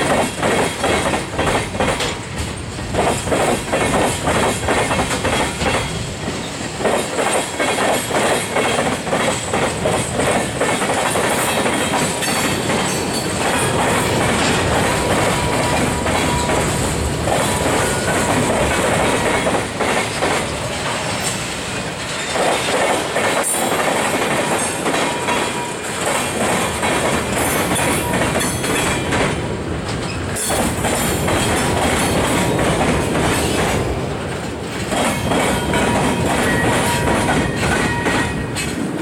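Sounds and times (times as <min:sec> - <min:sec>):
train wheels clacking on track: 0:00.0 - 0:39.0.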